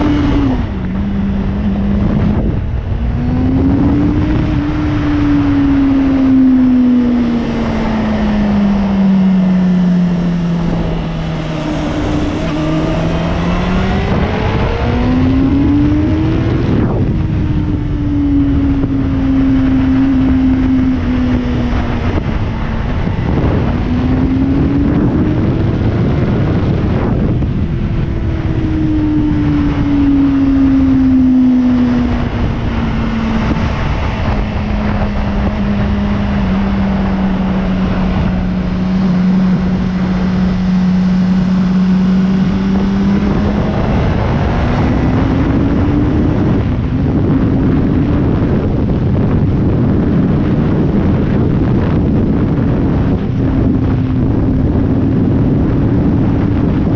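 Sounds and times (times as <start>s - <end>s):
motorcycle engine accelerating: 0.0s - 56.9s
wind rushing over microphone: 0.0s - 56.9s.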